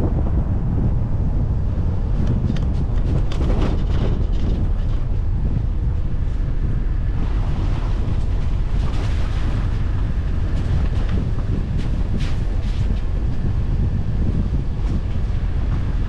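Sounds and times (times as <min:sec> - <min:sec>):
car driving rumble: 0:00.0 - 0:16.0
wind buffeting microphone: 0:00.0 - 0:16.0.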